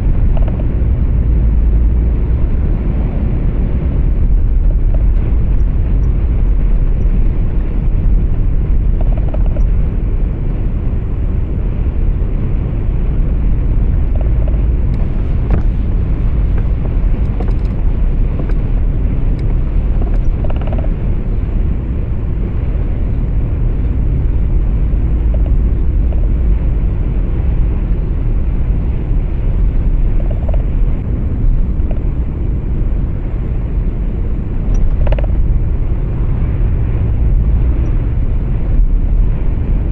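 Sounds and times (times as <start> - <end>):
road noise: 0.0 - 39.9
truck engine rumble: 0.0 - 39.9.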